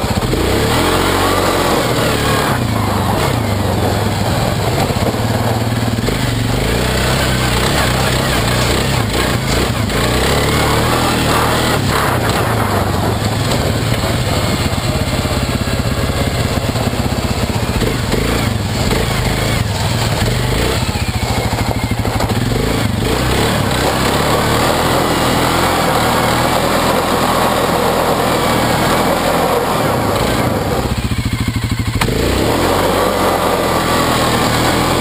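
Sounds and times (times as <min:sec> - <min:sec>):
atv engine revving: 0:00.0 - 0:35.0.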